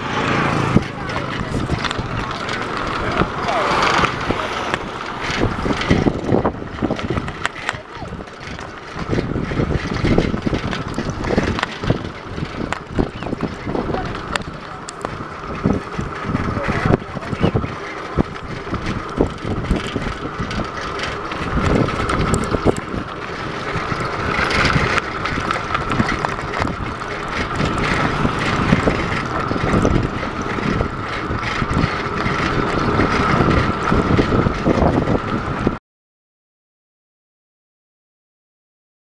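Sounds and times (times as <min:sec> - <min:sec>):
road and traffic noise: 0:00.0 - 0:35.8
wind buffeting microphone: 0:00.0 - 0:35.8.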